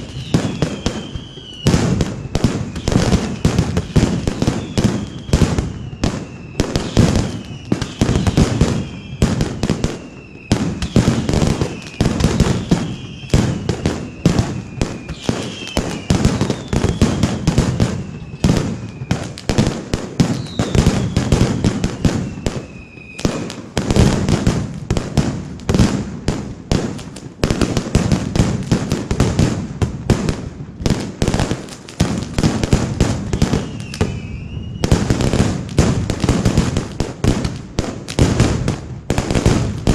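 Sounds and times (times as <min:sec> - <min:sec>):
firecrackers banging rapidly: 0:00.0 - 0:39.9
whistling fireworks: 0:00.0 - 0:39.9.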